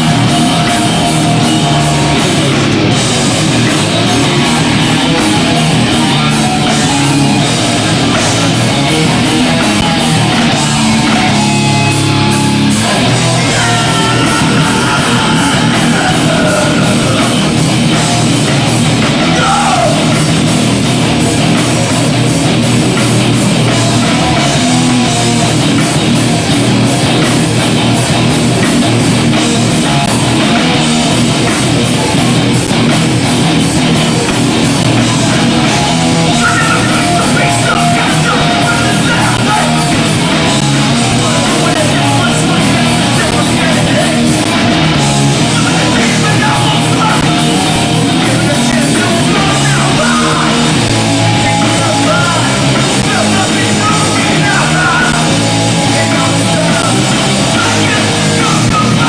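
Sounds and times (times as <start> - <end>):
punk band playing live: 0.0 - 59.0.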